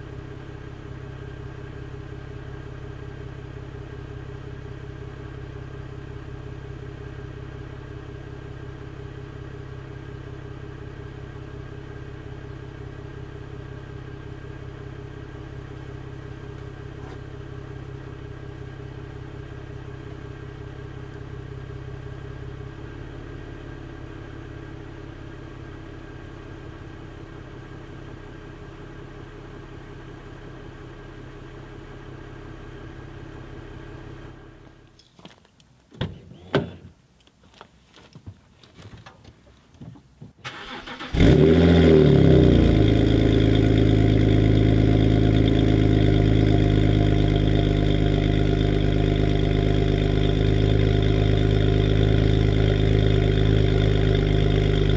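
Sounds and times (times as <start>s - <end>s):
car engine idling: 0.0s - 35.0s, 39.9s - 54.9s.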